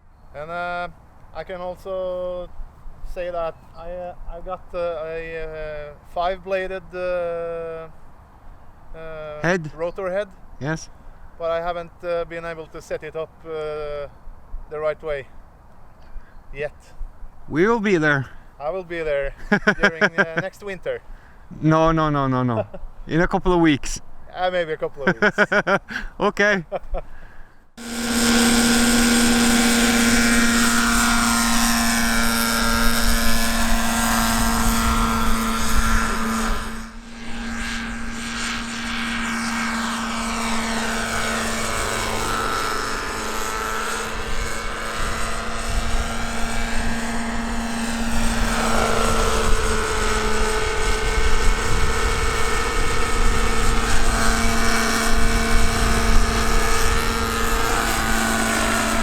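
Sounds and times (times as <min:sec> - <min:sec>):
model helicopter engine and rotors: 0:00.1 - 0:22.8, 0:27.7 - 0:59.0.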